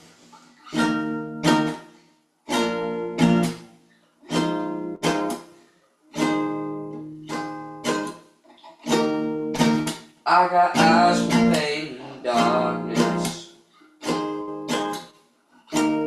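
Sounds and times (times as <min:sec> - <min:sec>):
acoustic guitar strummed chords: 0:00.0 - 0:08.2, 0:08.8 - 0:16.0.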